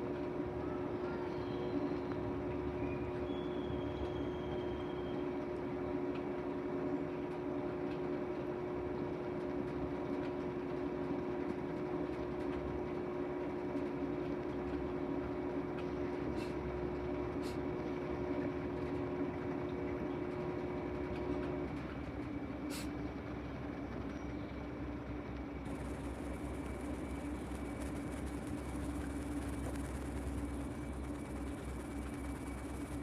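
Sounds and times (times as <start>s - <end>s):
washing machine spinning: 0.0s - 33.0s.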